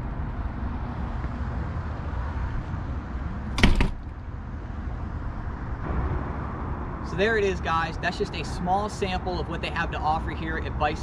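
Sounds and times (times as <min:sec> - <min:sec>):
street noise: 0:00.0 - 0:11.0
wind: 0:00.0 - 0:11.0.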